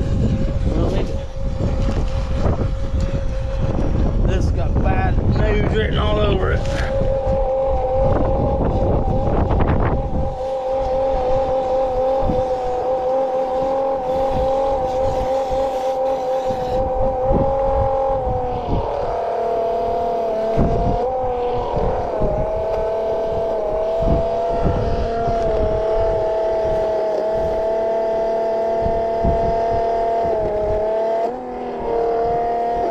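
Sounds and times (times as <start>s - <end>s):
low thumps and rumble: 0.0s - 15.8s, 16.4s - 31.3s
electric pump motor whining: 0.0s - 32.9s.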